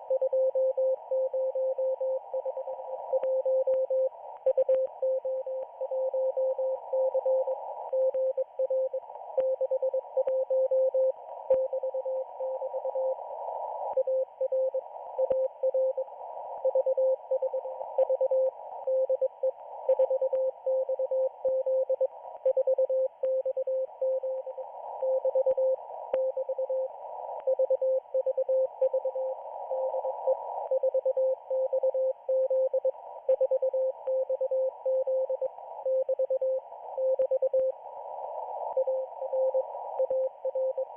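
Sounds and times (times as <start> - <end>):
faint static clicks: 0.0 - 40.9.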